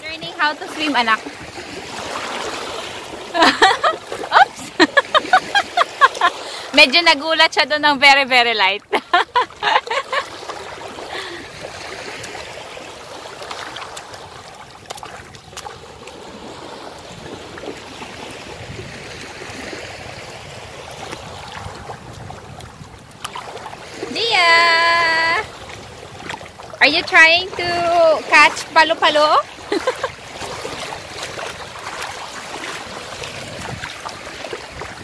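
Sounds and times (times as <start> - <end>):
small water splashes: 0.0 - 35.0
surf washing over sand: 0.0 - 35.0.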